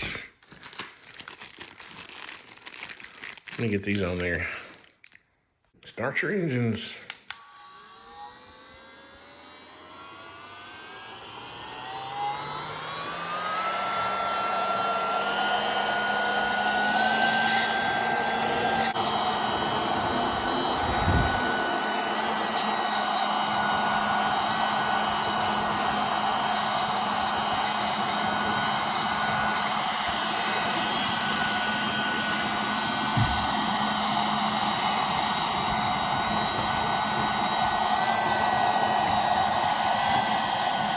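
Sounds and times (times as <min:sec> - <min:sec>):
mini vacuum cleaner whining: 0:06.2 - 0:40.9.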